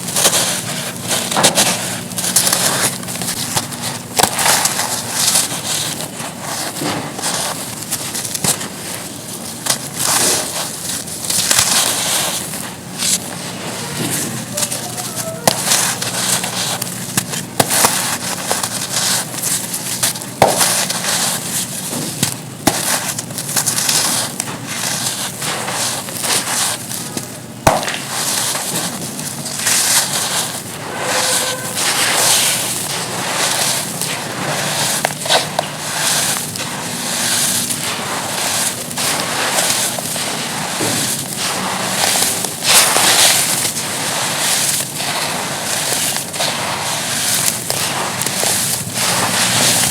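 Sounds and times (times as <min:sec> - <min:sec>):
charcoal crumbling and crunching: 0:00.0 - 0:49.9.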